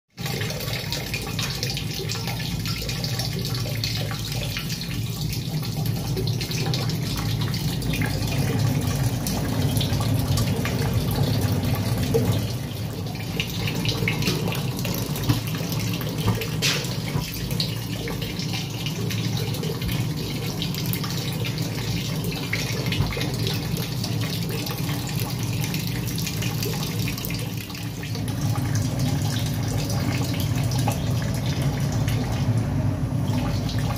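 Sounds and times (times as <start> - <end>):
water splashing into bucket: 0.2 - 33.9.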